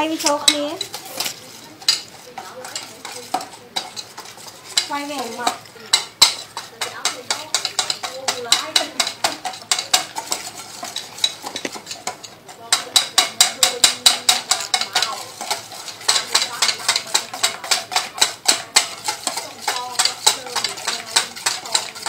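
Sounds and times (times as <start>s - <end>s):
utensil clinking against metal bowl: 0.0s - 22.0s.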